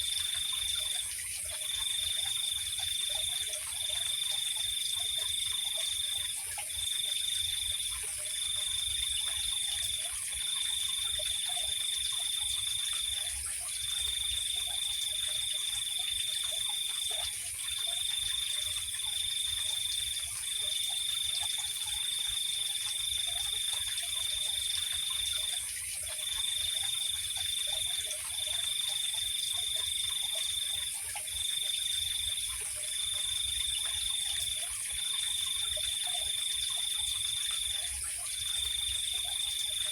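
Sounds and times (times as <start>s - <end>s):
faint frog calls: 0.0s - 39.9s.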